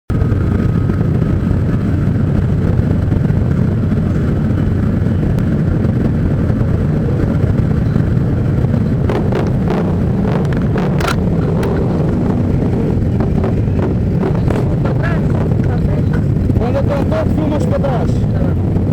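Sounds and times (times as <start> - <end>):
motorcycle engines rumbling: 0.1 - 18.9
wind on microphone: 0.1 - 18.9.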